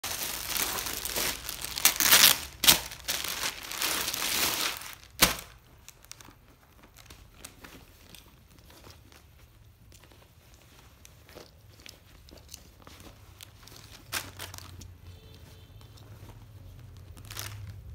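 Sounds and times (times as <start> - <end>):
plastic bags crinkling: 0.0 - 15.2, 16.0 - 17.9.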